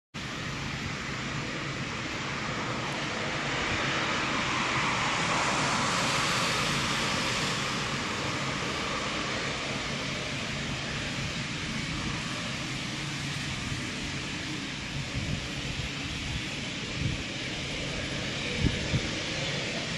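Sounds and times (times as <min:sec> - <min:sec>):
jet engines running: 0:00.2 - 0:19.9.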